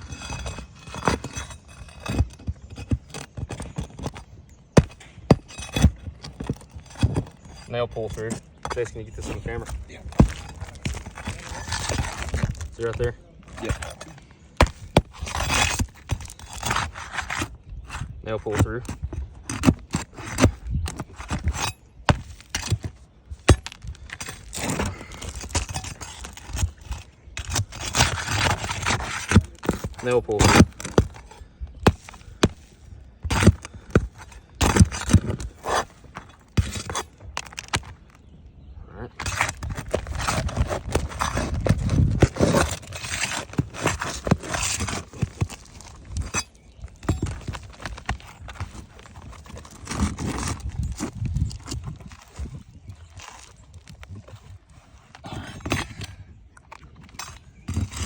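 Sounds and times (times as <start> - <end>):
shingles scraping and rustling: 0.0 - 38.4, 39.1 - 58.0.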